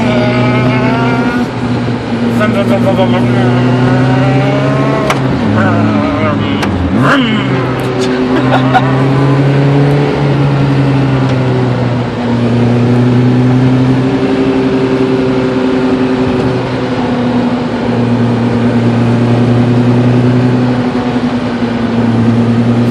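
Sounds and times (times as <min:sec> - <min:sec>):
engine-like droning in car cabin: 0:00.0 - 0:22.9.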